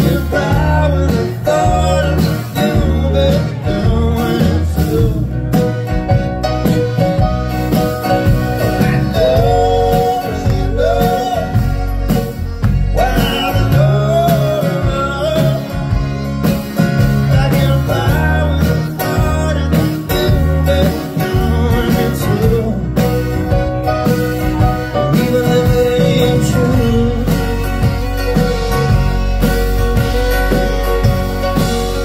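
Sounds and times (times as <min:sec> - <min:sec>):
bass: 0:00.0 - 0:32.0
bending lead melody: 0:00.0 - 0:32.0
guitar: 0:00.0 - 0:32.0
steady drum beat: 0:00.0 - 0:32.0.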